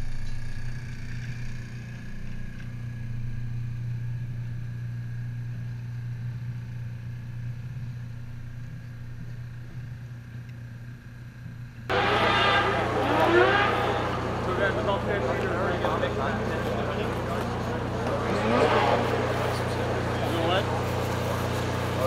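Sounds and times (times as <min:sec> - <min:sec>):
truck engine low drone: 0:00.0 - 0:22.0.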